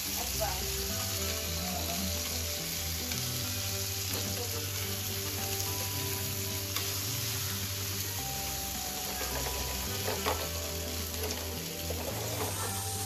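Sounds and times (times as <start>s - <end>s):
steaks sizzling in a frying pan: 0.0s - 13.0s.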